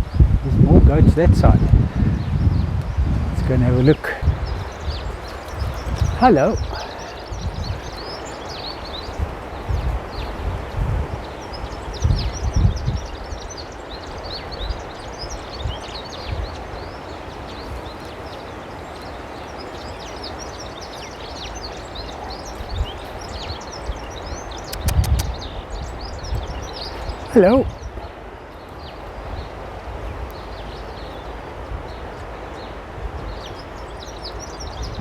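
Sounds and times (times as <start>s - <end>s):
outdoor background noise: 0.0s - 35.0s
small birds chirping: 1.1s - 35.0s.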